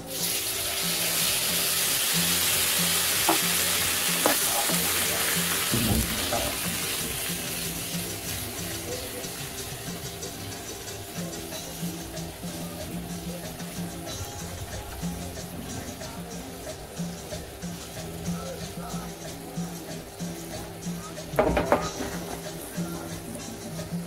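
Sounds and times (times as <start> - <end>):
loud sizzle in frying pan: 0.0 - 24.0.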